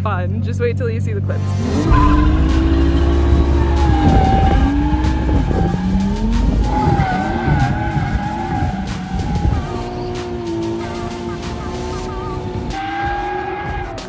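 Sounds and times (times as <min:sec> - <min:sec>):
car engine revving: 0:01.3 - 0:14.0
tyres squealing: 0:01.7 - 0:14.0.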